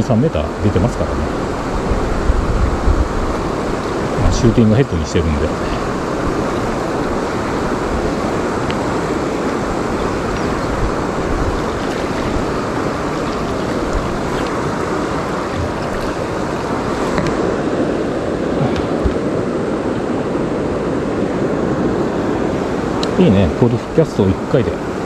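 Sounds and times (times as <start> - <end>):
river current rushing: 0.0 - 25.0.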